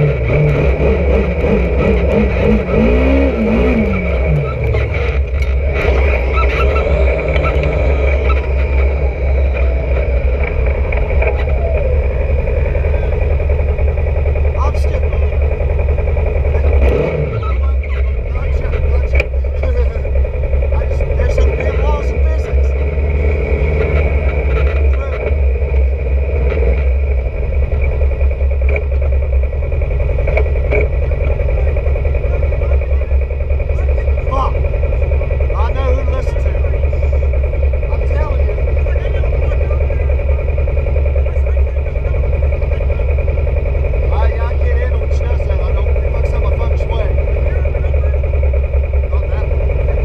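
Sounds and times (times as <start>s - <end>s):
chassis rattles and clicks: 0.0s - 50.0s
high whine: 0.0s - 50.0s
off-road vehicle engine running: 0.0s - 50.0s.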